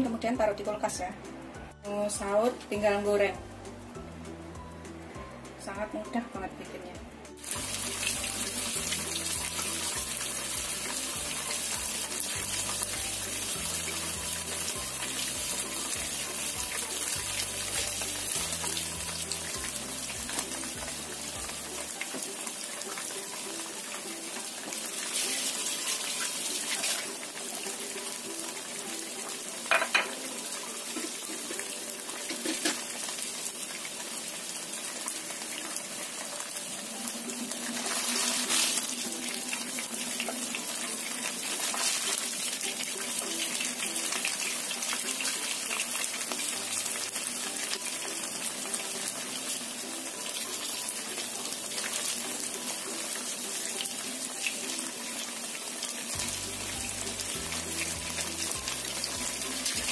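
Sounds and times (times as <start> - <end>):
food sizzling in oil: 7.3 - 59.9.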